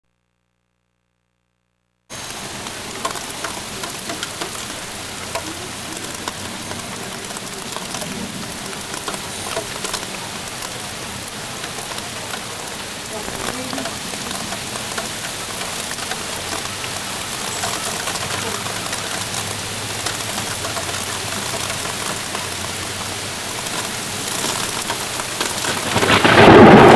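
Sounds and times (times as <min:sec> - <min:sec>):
rain falling: 0:02.1 - 0:26.9.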